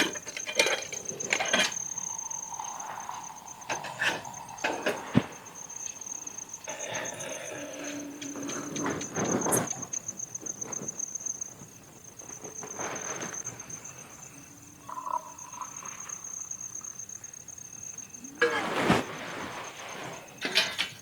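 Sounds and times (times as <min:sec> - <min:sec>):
cricket trilling: 0:00.0 - 0:21.0.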